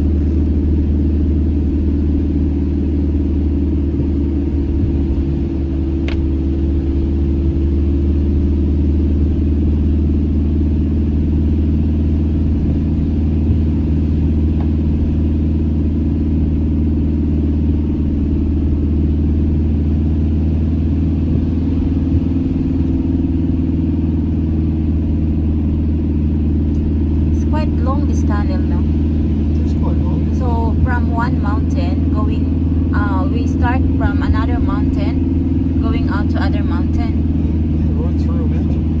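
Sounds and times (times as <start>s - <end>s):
engine and road noise in cab: 0.0s - 39.0s.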